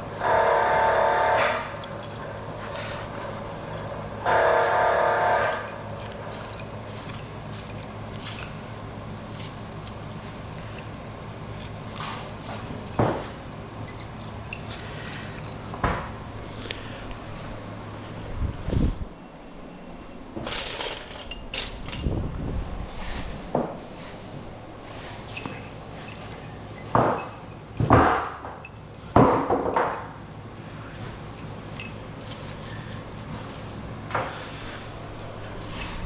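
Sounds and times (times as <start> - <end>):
scrap metal clinks and knocks: 0.0 - 17.6, 20.4 - 22.2, 24.8 - 36.0
steady low hum: 0.0 - 36.0.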